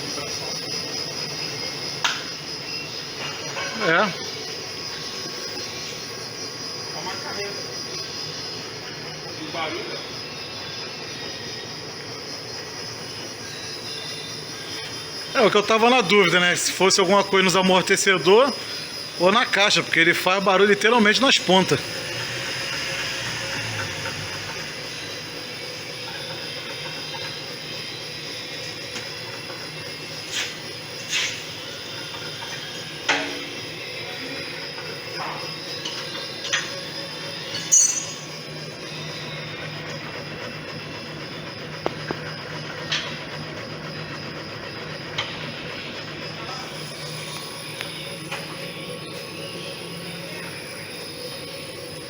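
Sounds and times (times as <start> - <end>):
pulsing machine hum: 0.0 - 52.0.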